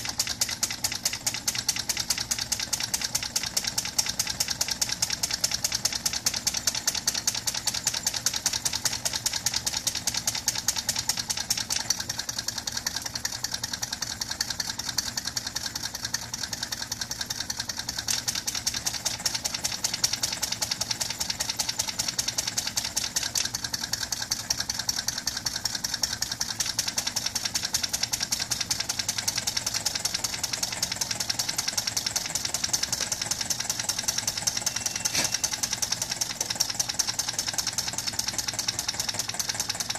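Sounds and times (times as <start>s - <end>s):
engine flywheel ticking: 0.0s - 39.9s.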